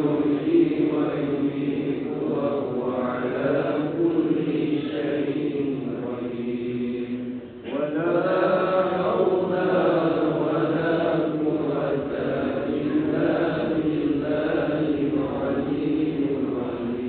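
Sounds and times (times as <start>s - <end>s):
devotional chanting: 0.0s - 17.0s.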